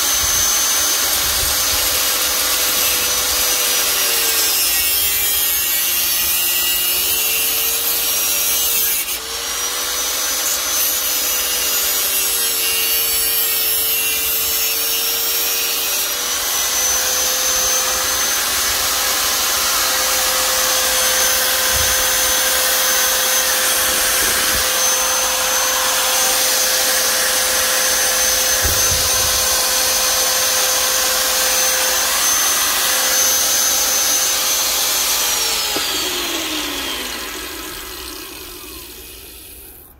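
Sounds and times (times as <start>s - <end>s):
electric power tool cutting: 0.0s - 39.9s.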